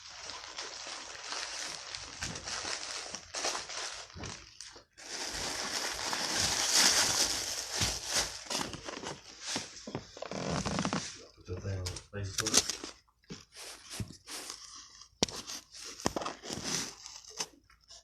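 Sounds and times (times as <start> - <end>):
paper crinkling: 0.0 - 11.2, 12.4 - 18.0.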